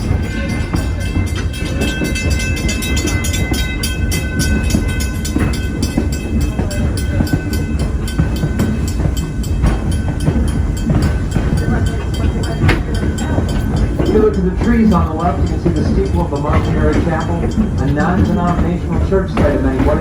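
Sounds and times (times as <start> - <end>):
fast even clattering: 0.0 - 20.0
train running gear rumble: 0.0 - 20.0.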